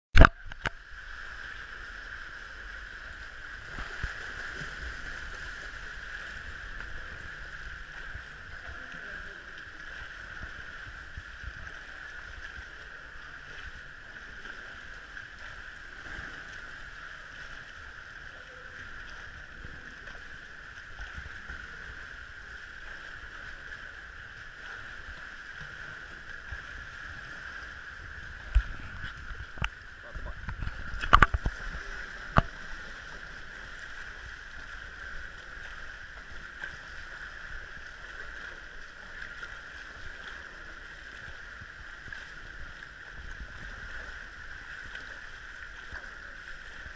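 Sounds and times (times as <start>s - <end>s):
constant hiss: 0.2s - 46.9s
muffled water sloshing: 2.1s - 46.9s.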